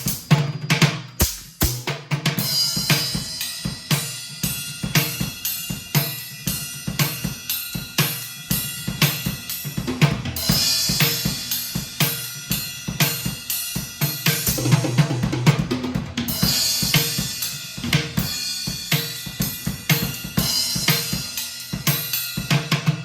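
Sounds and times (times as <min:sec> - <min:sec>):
drum kit groove: 0:00.0 - 0:23.0.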